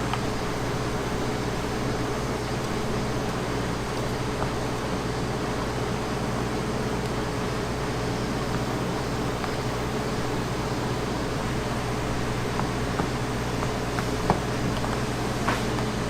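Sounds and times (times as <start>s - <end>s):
mechanical hum with hiss: 0.0s - 16.0s.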